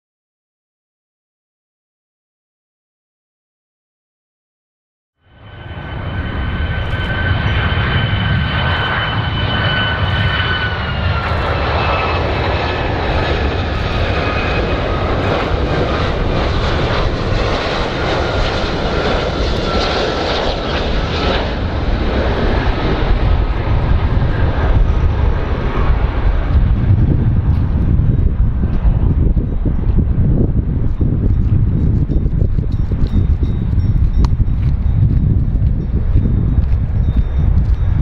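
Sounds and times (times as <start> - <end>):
jet engine noise with high whine: 5.2 - 38.0.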